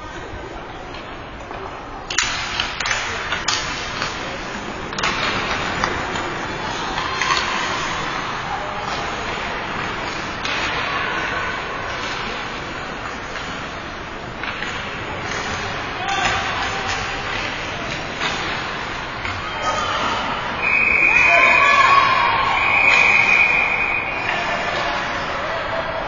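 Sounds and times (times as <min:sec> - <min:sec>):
hockey sticks clacking: 0:00.2 - 0:20.8, 0:22.6 - 0:26.0.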